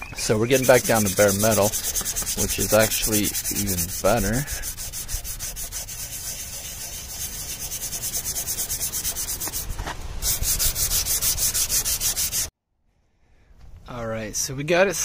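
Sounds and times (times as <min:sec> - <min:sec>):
hand sanding rusty metal: 0:00.1 - 0:12.5.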